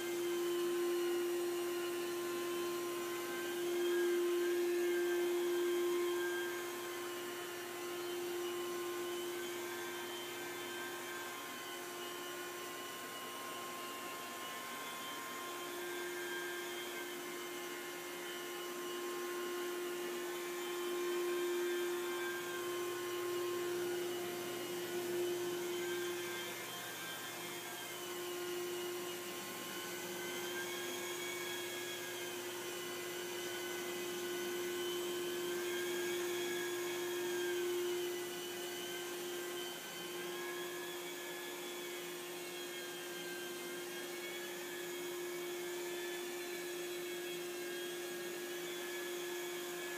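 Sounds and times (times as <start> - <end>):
carpet extractor motor whine: 0.0 - 49.9.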